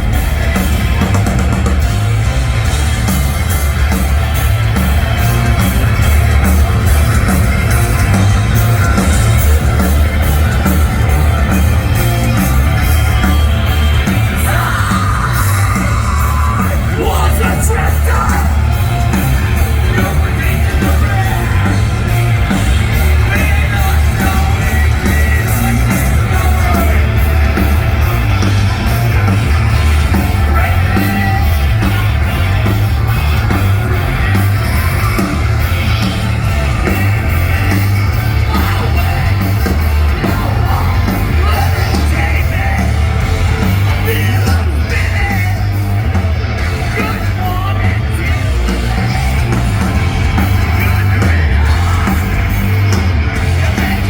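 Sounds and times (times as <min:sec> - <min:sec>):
distorted guitars: 0:00.0 - 0:54.0
heavy bass and drums: 0:00.0 - 0:54.0
yelled vocal: 0:05.0 - 0:54.0.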